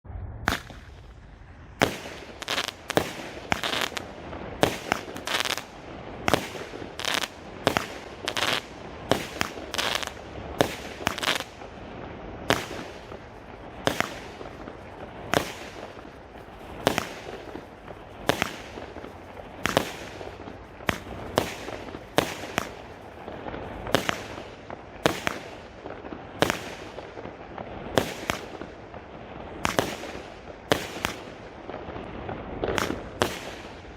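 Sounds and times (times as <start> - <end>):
firework bangs: 0.1 - 33.9
firework crackling: 0.2 - 33.9.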